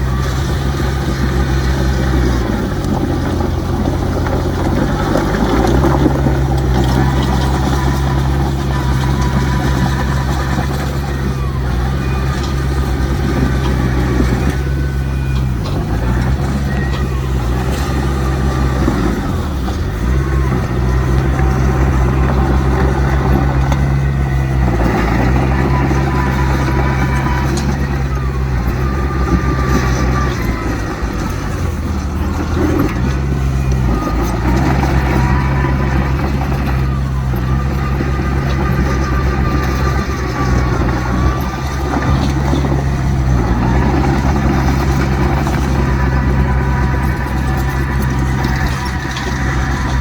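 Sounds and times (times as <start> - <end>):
faint gliding whines: 0.0 - 50.0
heavy diesel engines running: 0.0 - 50.0.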